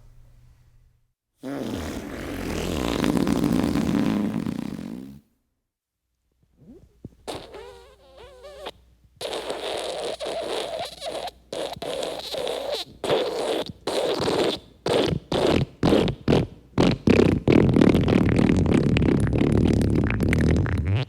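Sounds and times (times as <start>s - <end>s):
long sputtering fart: 1.4s - 5.3s, 6.6s - 21.0s
squeaky fart: 1.4s - 5.3s, 6.6s - 21.0s.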